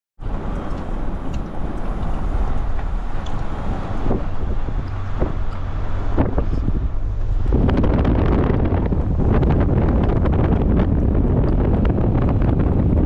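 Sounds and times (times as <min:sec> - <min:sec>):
car engine and tyre rumble: 0:00.2 - 0:13.0.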